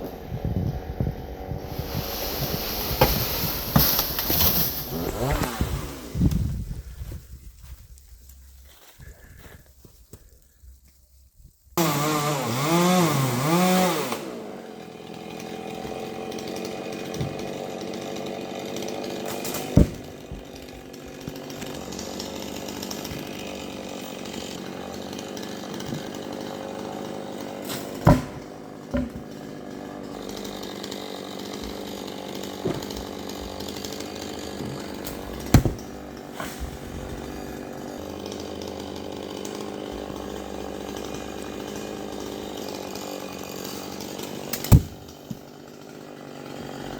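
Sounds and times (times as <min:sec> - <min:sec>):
chainsaw revving: 0:00.2 - 0:06.6, 0:11.8 - 0:46.9.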